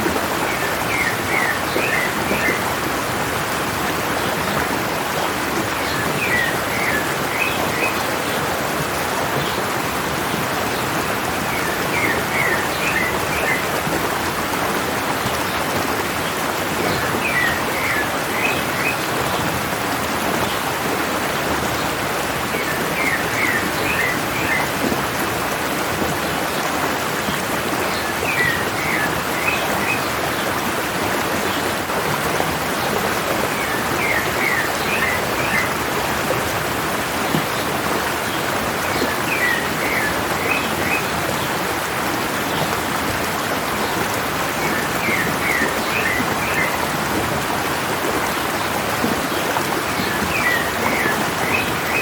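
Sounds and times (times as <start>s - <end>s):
stream water running and splashing: 0.0s - 52.0s.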